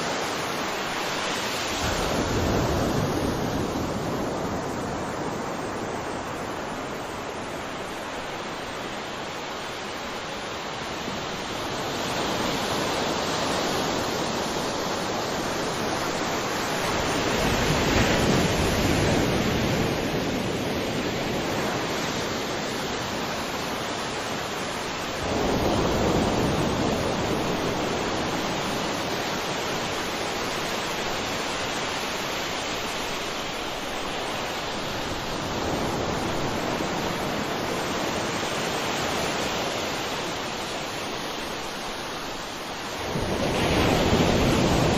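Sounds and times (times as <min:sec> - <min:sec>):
sea waves washing onto shore: 0:00.0 - 0:44.9.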